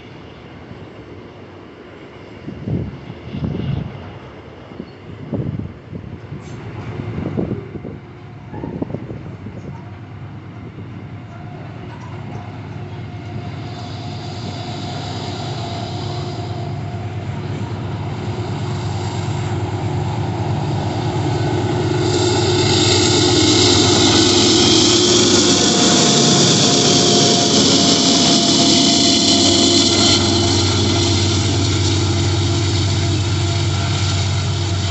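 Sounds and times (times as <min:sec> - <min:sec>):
diesel locomotive engine hum: 0:00.0 - 0:34.9
train noise hiss: 0:00.0 - 0:34.9.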